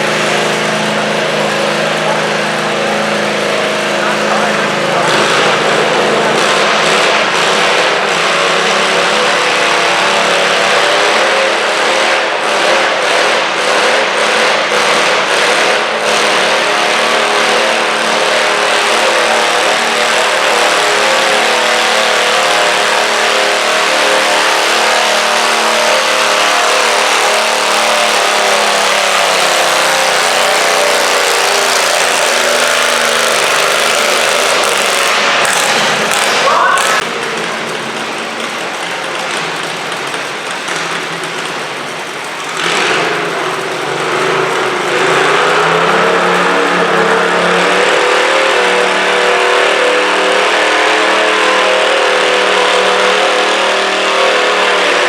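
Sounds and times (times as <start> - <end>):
garden tractor engine revving: 0.0 - 55.0.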